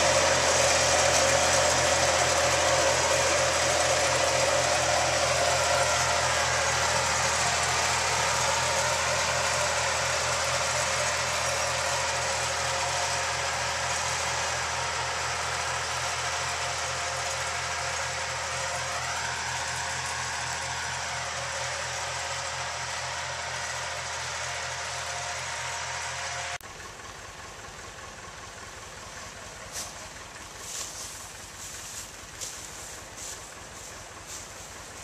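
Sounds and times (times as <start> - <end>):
tractor engine running under load: 0.0 - 35.0.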